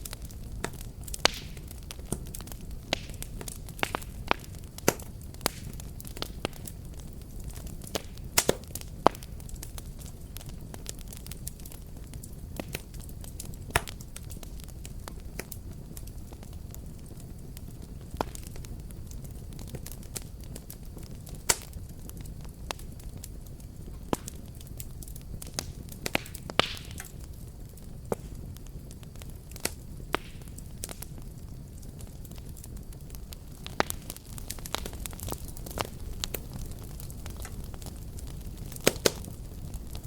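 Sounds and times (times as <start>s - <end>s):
low rumble of burning: 0.0s - 40.0s
wood fire crackling and popping: 0.0s - 40.0s.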